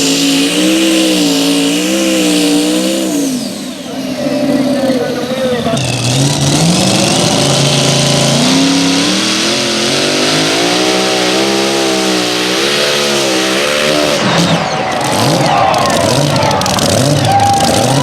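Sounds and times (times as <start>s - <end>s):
tractor engine running hard: 0.0s - 18.0s.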